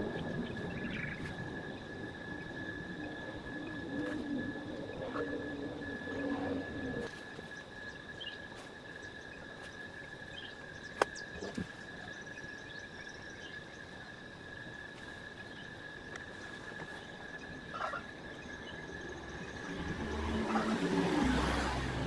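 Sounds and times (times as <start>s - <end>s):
faint outdoor hiss: 0.0s - 22.0s
insects chirring: 0.0s - 22.0s.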